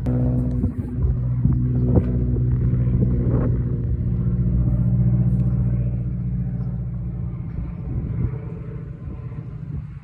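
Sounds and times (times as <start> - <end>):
propeller plane flying overhead: 0.0 - 10.0.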